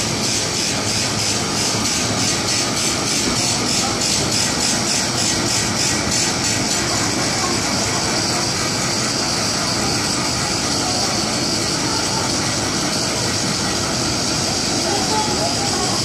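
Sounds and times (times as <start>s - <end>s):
train equipment hiss and hum: 0.0s - 16.0s.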